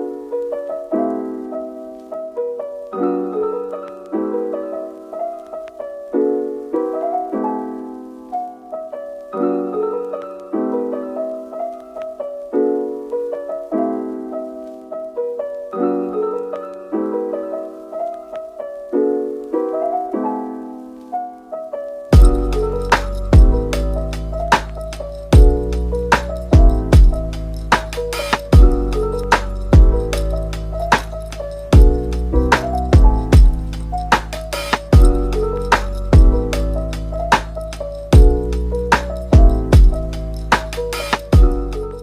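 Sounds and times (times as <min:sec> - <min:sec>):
soft piano chords: 0:00.0 - 0:42.0.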